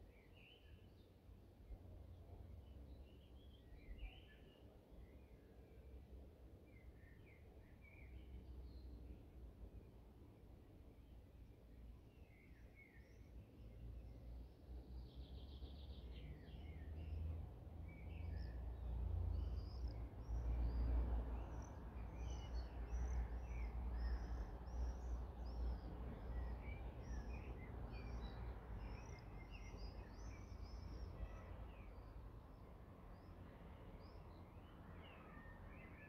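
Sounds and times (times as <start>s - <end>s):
songbirds singing and chirping: 0.0s - 10.0s, 11.0s - 36.0s.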